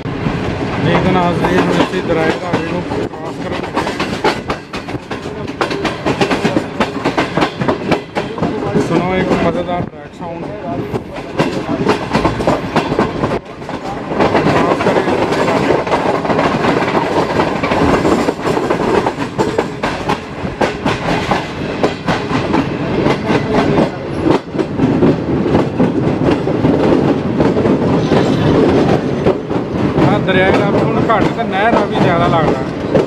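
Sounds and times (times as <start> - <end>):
train running rumble: 0.0 - 33.0
train wheels clattering: 0.0 - 33.0.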